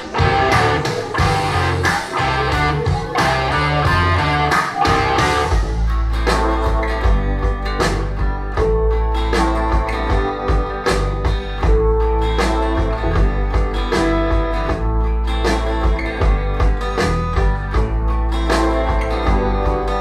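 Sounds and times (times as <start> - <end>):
folk music over loudspeakers: 0.0 - 20.0.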